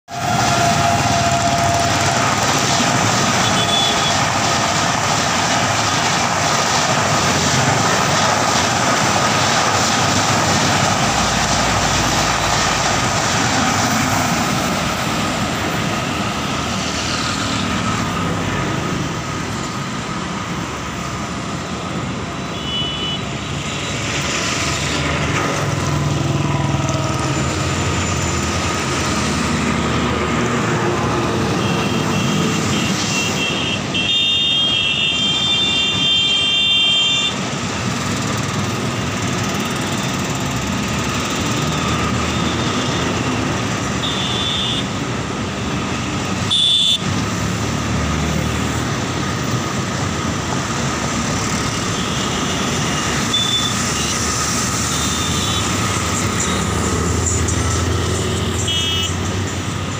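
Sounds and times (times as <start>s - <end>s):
train wheels rumbling on rails: 0.1s - 22.5s, 23.3s - 33.9s, 37.3s - 44.1s, 44.9s - 59.9s
approaching express train: 0.1s - 59.9s.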